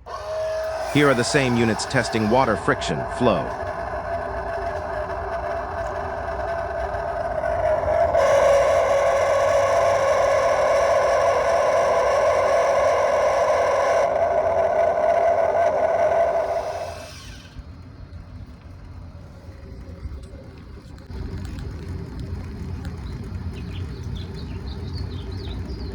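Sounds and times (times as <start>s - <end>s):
water rushing through pipe: 0.0s - 25.9s.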